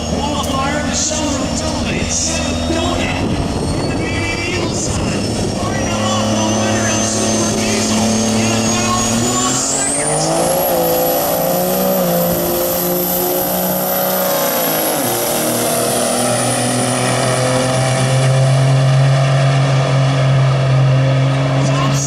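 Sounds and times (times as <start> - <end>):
diesel engines at full throttle: 0.0 - 22.0.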